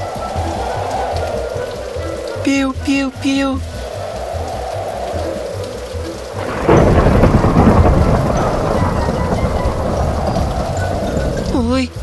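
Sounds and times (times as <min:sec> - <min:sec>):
rumble of thunder: 0:00.0 - 0:02.5, 0:03.6 - 0:11.8
thunderclap: 0:00.0 - 0:02.9, 0:03.6 - 0:12.0
rain falling: 0:00.0 - 0:12.0.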